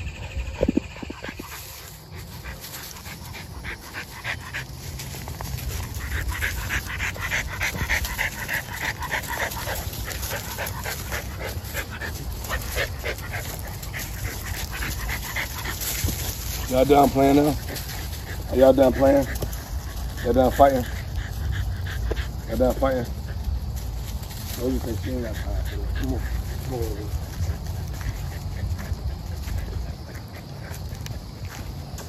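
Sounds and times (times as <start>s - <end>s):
dog panting: 0.0s - 32.0s
leaves crunching under paws: 1.3s - 21.8s, 22.5s - 30.1s.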